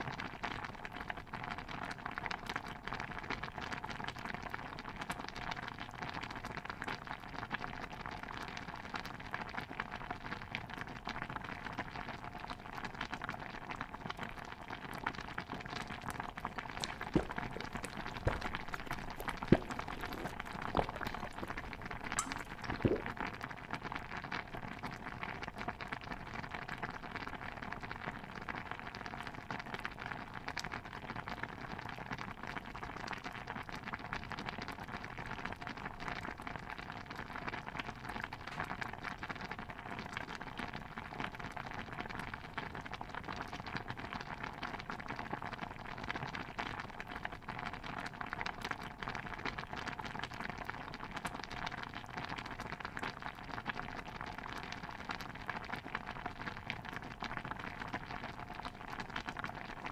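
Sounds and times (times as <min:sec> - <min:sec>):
dense patter of crackles and drips: 0:00.0 - 0:23.2, 0:23.8 - 0:59.9.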